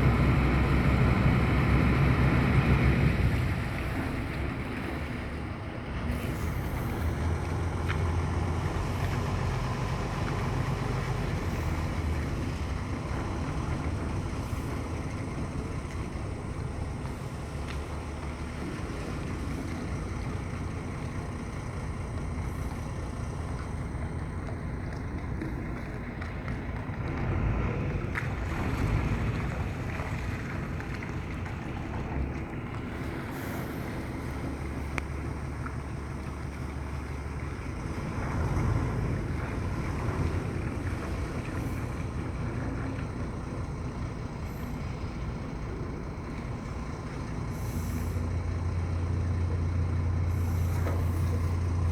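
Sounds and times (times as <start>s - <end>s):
boat engine running: 0.0s - 51.9s
water noise: 0.0s - 51.9s.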